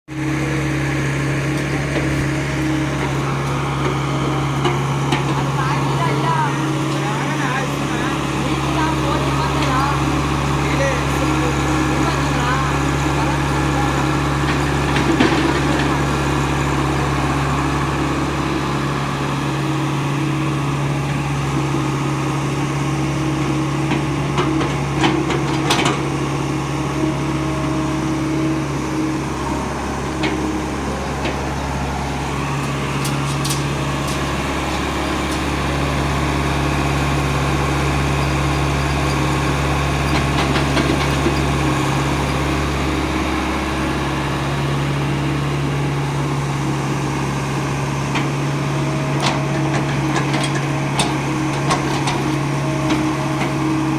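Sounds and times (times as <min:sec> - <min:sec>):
diesel engine running: 0:00.1 - 0:53.9.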